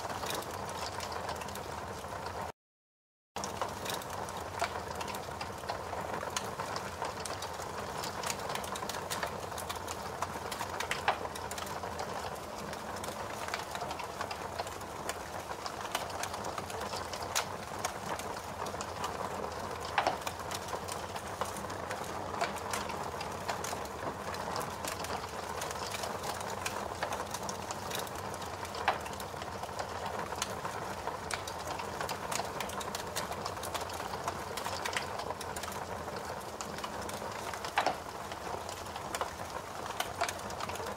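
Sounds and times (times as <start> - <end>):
fire crackling and hissing: 0.0 - 2.5, 3.4 - 40.9.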